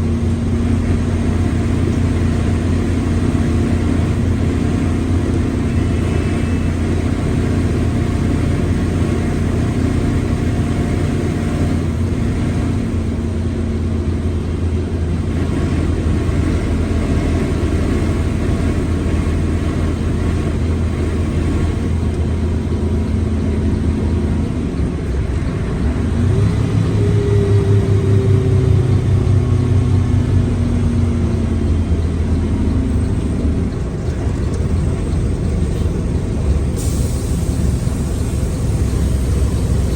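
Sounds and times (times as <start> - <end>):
bus engine droning: 0.0 - 39.9
gearbox whine: 0.1 - 13.4, 17.5 - 39.9.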